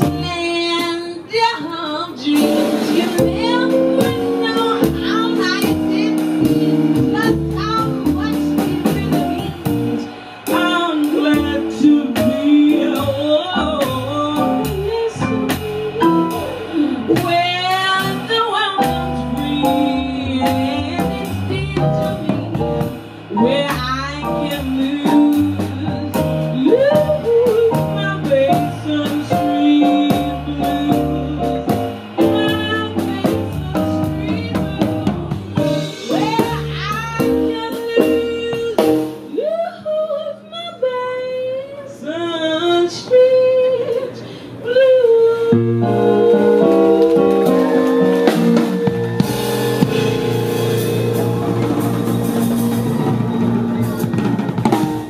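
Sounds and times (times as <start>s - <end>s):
live band playing: 0.0s - 39.5s, 42.9s - 55.0s
drum kit: 0.0s - 39.9s, 45.3s - 55.0s
woman singing: 0.0s - 50.0s.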